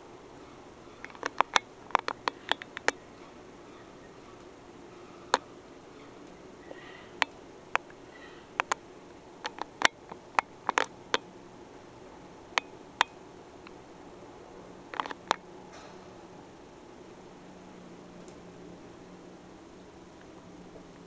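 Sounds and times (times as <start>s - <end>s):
room hiss: 0.0s - 21.0s.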